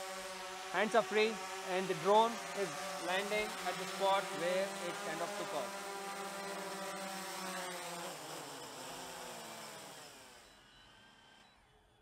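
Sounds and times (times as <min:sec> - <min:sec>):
drone propellers buzzing: 0:00.0 - 0:11.4.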